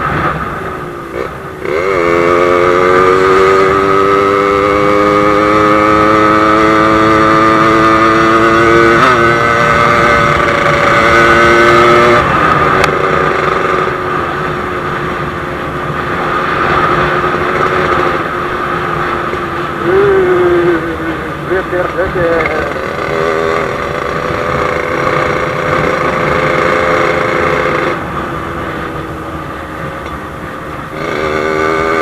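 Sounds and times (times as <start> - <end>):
two-stroke motorcycle engine: 0.0 - 32.0.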